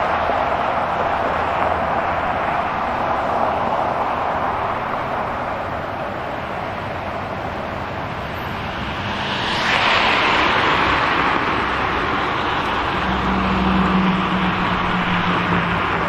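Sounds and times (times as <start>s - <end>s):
car tyre noise passing: 0.0s - 16.0s
low engine hum: 0.0s - 16.0s.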